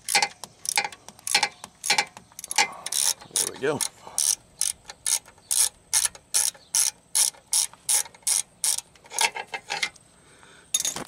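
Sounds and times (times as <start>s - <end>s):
socket ratchet clicking: 0.0s - 9.3s.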